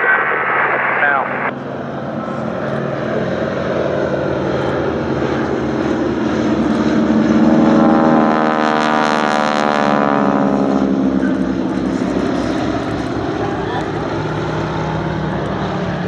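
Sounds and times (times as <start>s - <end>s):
biplane engine and propeller drone: 0.0s - 16.0s.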